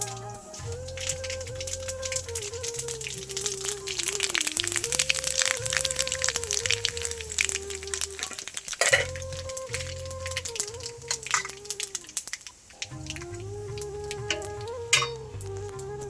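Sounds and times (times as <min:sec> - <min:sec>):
background music: 0:00.0 - 0:12.0, 0:12.8 - 0:16.0
spices sizzling in hot oil: 0:00.0 - 0:16.0.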